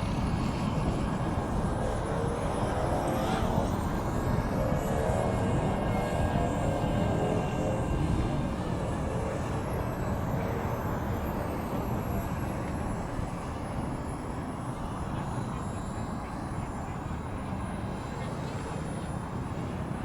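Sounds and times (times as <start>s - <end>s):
jet turbine engine whine: 0.0s - 20.0s
wind rumble on microphone: 0.0s - 20.0s.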